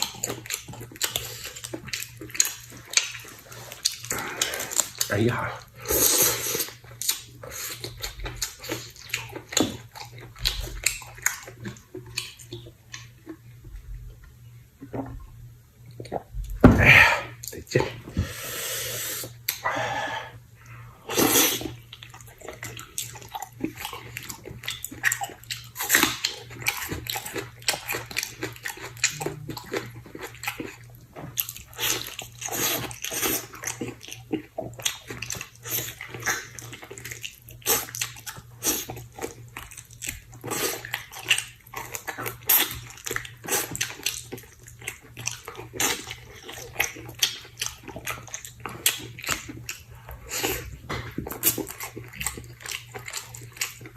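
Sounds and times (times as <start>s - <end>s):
wet chewing and smacking: 0.0s - 16.6s, 21.1s - 53.9s.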